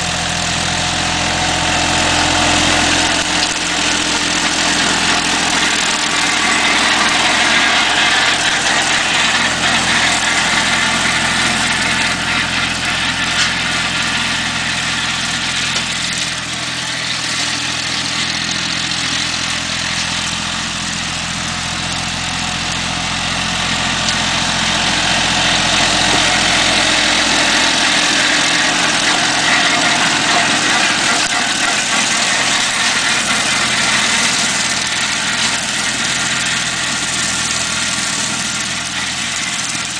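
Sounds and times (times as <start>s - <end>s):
mower deck hissing: 0.0s - 39.9s
tractor engine running: 0.0s - 39.9s.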